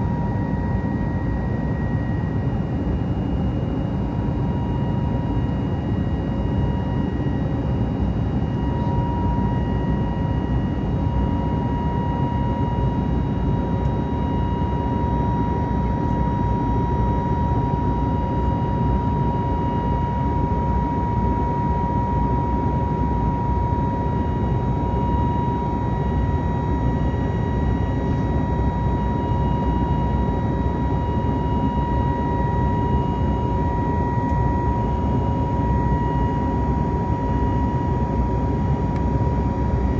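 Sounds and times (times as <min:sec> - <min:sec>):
high engine whine: 0:00.0 - 0:39.9
jet engine roar in cabin: 0:00.0 - 0:39.9.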